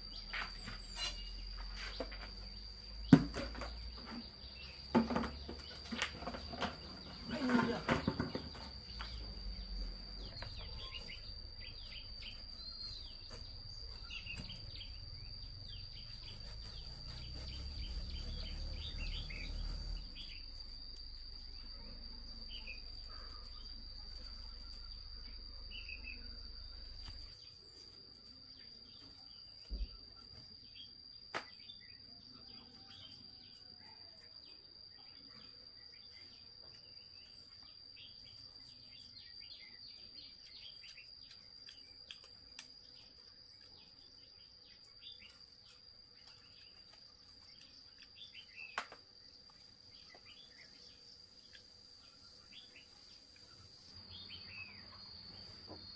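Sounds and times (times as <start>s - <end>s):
bird chirps: 0.0s - 27.9s, 28.6s - 55.9s
high-pitched insect drone: 0.0s - 55.9s.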